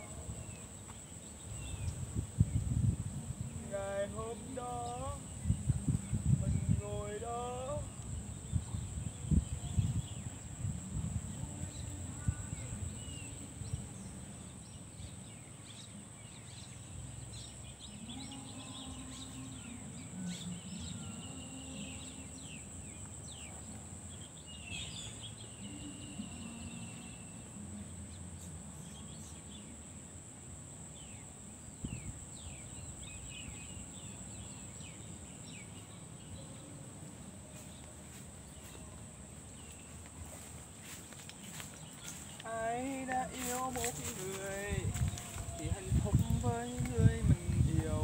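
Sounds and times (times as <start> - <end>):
small birds chirping: 0.0 - 30.0, 30.9 - 48.0.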